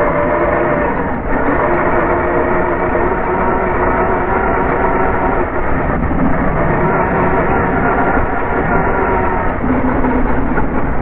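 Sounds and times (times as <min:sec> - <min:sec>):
rough tyre rumbling: 0:00.0 - 0:11.0
toy car motor whine: 0:00.0 - 0:11.0.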